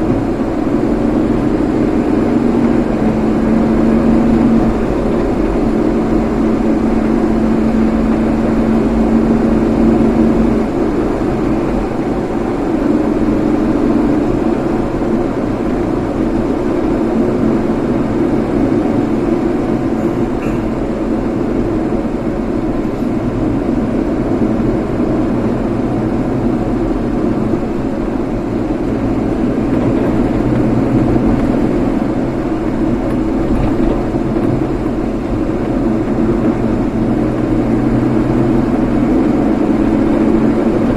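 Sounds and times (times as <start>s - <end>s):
vehicle engine and road noise: 0.0s - 40.9s.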